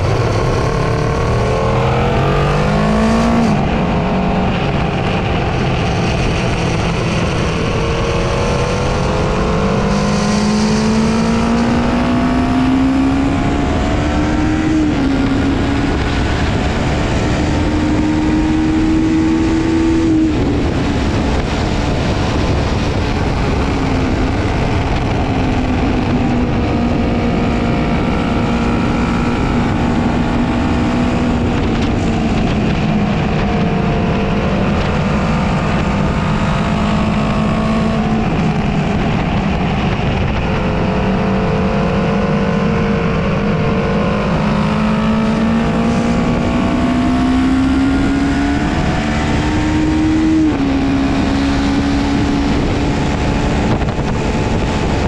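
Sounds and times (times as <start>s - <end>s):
motorcycle engine at speed: 0.0s - 55.0s
wind rush: 0.0s - 55.0s.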